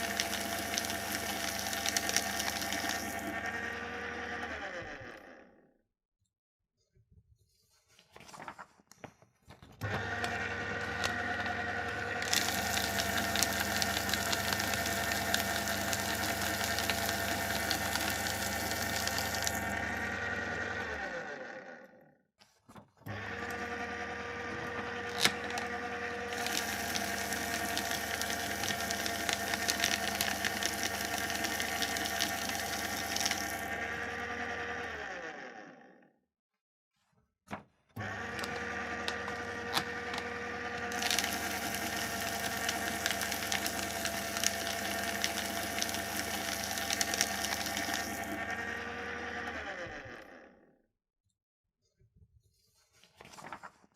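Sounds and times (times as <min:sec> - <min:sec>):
paper shredder running: 0:00.0 - 0:05.7, 0:09.6 - 0:36.2, 0:37.5 - 0:50.8.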